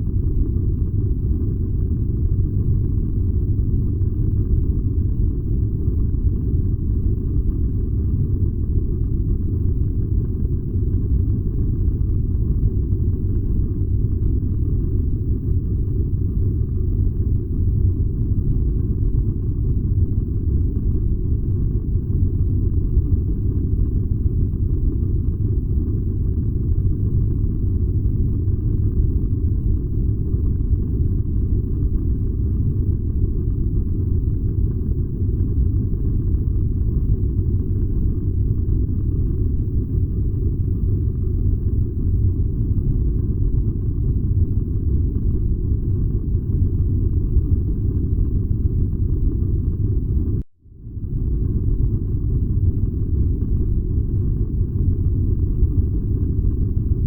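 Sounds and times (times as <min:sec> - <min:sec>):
furnace burning low rumble: 0:00.0 - 0:57.0.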